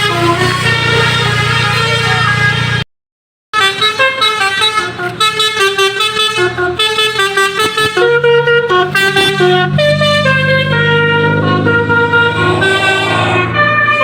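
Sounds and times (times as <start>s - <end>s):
multi-tone car horn tune: 0.0s - 2.9s, 3.6s - 14.0s.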